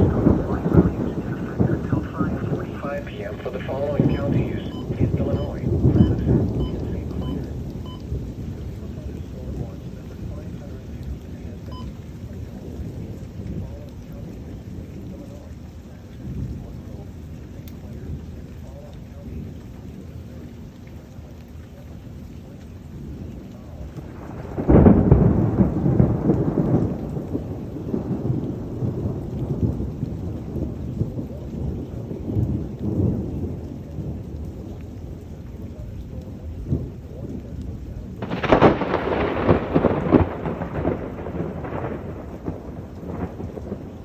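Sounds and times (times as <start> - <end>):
steady rain: 0.0 - 44.0
thunder claps rumbling: 0.0 - 44.0.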